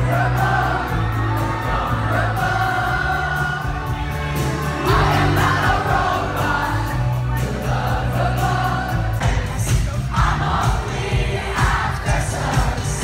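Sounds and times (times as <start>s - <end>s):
live pop band: 0.0s - 13.0s.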